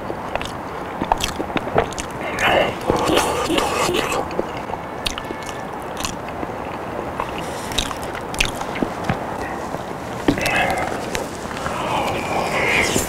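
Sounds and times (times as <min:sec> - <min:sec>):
background hiss: 0:00.0 - 0:13.0
close chewing with wet mouth sounds: 0:00.0 - 0:13.0
small mouth clicks: 0:00.0 - 0:13.0.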